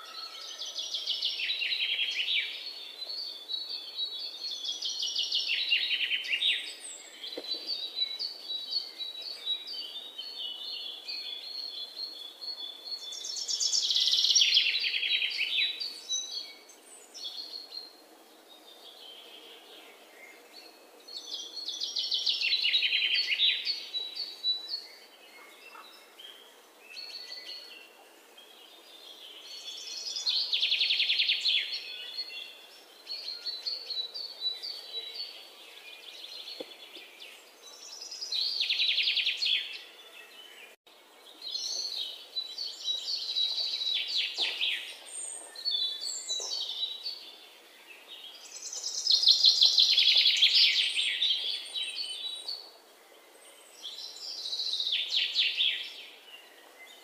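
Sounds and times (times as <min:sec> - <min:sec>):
soft bird chirps: 0:00.0 - 0:57.0.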